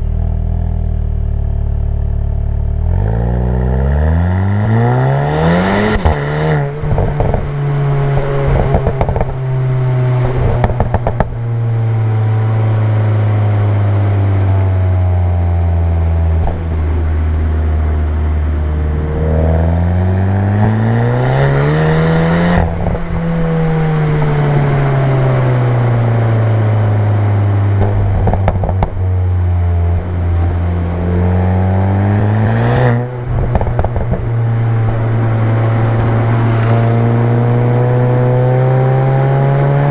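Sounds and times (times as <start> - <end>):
exhaust crackling: 0.0 - 38.5
car engine driving: 0.0 - 39.9.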